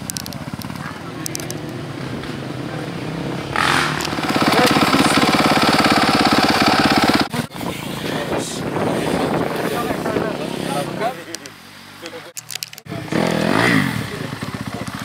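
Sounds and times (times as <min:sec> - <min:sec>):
motocross bike engine: 0:00.0 - 0:15.0
quieter engine: 0:00.0 - 0:15.0.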